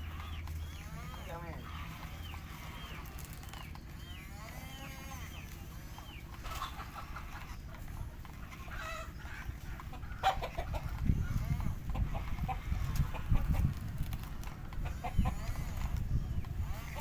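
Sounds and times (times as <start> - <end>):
birds calling: 0.0 - 17.0
steady low rumble: 0.0 - 17.0.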